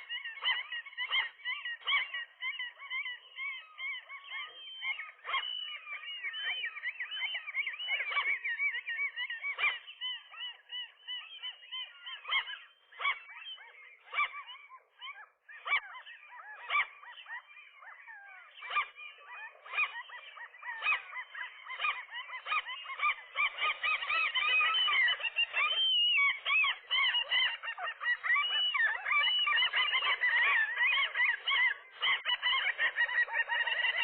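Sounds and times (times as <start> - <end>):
gulls calling: 0.0 - 34.0.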